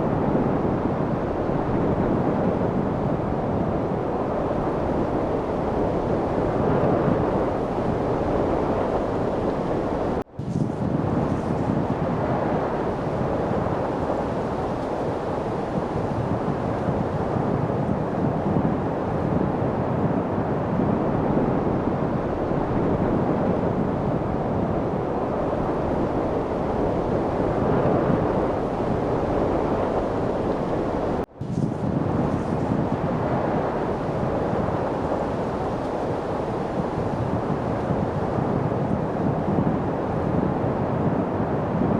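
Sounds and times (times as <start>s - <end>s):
light wind blowing: 0.0s - 41.9s.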